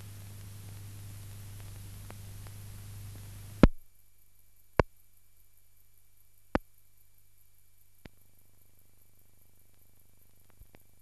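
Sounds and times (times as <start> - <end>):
electrical hum with hiss: 0.0 - 11.0.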